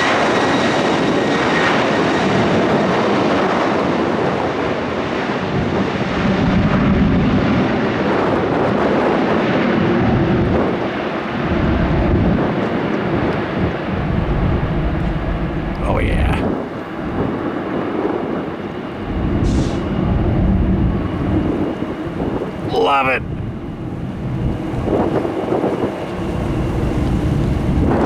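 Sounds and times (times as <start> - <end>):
jet engines running: 0.0 - 28.0
wind buffeting microphone: 0.0 - 28.0.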